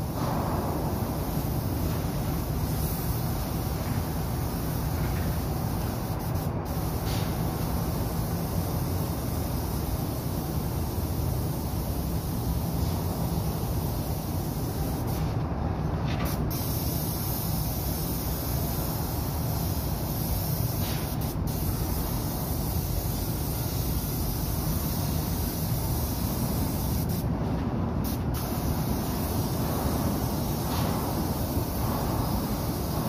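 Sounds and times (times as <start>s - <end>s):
spray gun hissing: 0.0s - 15.4s, 16.3s - 27.2s, 28.0s - 33.0s
constant low rumble: 0.0s - 33.0s.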